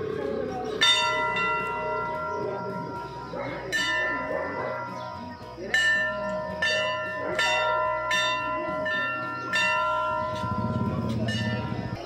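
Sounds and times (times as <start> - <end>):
temple bell ringing: 0.8 - 12.0.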